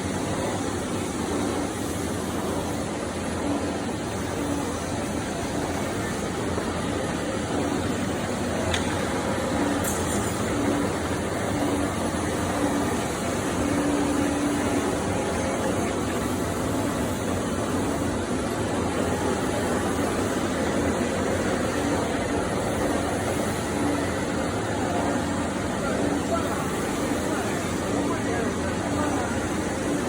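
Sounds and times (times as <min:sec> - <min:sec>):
lathe running: 0:00.1 - 0:30.0.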